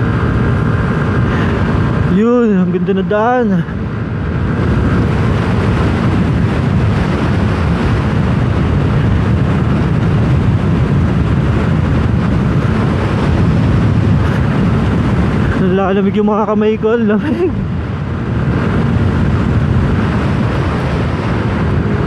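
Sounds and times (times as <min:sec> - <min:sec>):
wind rushing on microphone: 0:00.0 - 0:22.0.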